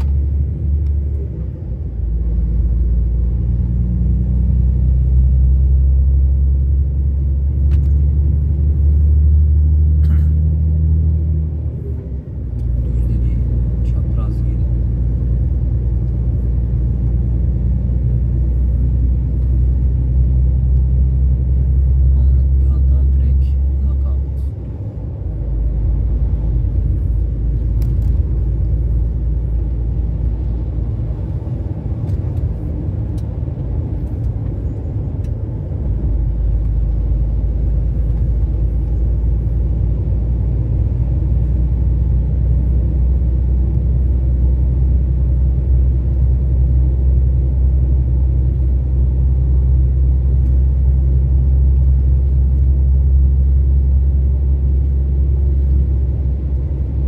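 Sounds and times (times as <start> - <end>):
engine and tyre rumble: 0.0 - 57.0.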